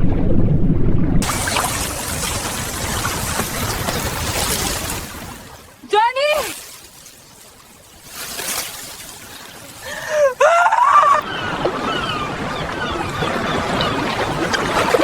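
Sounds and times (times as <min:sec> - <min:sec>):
sea surf: 0:00.9 - 0:15.0.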